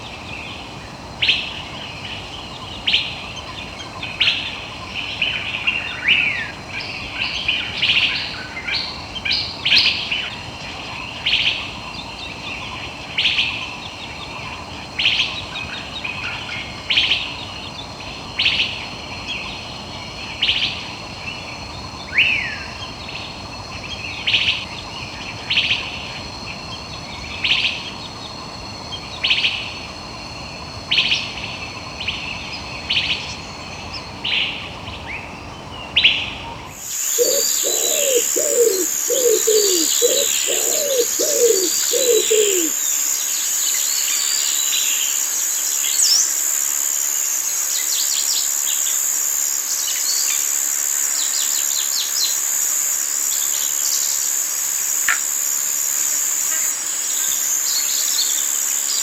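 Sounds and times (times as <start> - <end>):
forest background hiss: 0.0 - 59.0.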